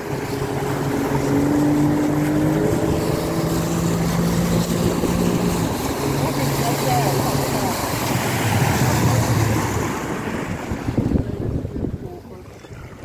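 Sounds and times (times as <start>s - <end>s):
outboard motor running at speed: 0.0s - 13.0s.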